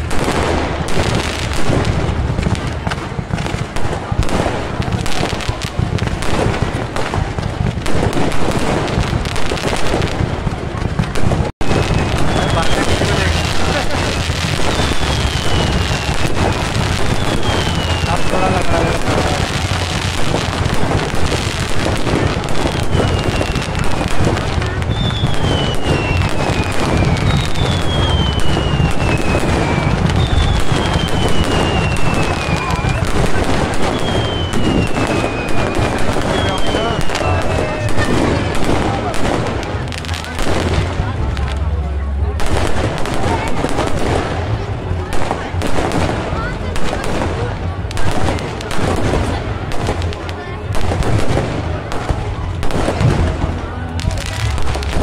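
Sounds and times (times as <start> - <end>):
fireworks and firecrackers crackling: 0.0 - 55.0.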